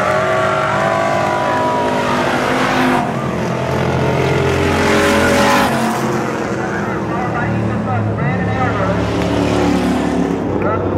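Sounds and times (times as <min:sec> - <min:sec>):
car passing close: 0:00.0 - 0:10.8
stock car engines racing: 0:00.0 - 0:10.9.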